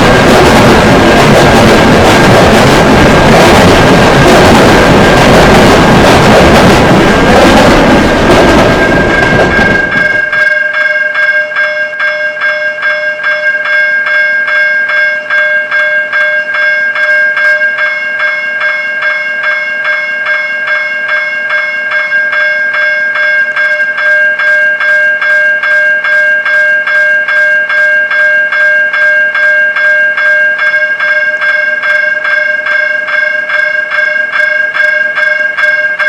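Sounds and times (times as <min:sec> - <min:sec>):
railroad crossing bell ringing: 0:00.0 - 0:36.0.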